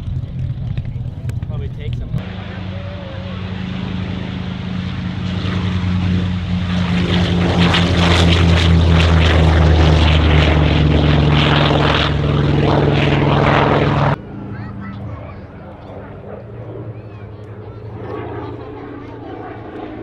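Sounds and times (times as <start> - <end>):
propeller plane engine roaring: 0.0 - 20.0.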